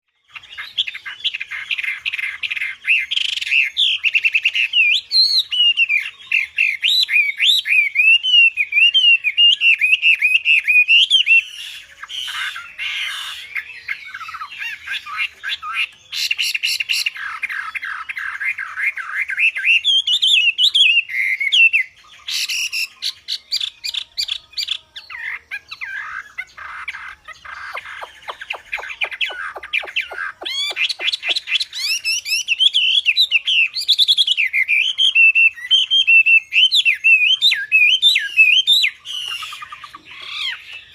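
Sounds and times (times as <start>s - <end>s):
bird trills: 0.1s - 40.9s
bird singing whistled phrases: 0.2s - 40.9s.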